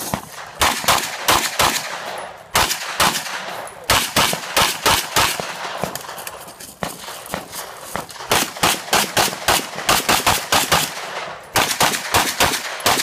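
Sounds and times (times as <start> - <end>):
pistol shots: 0.0 - 13.0.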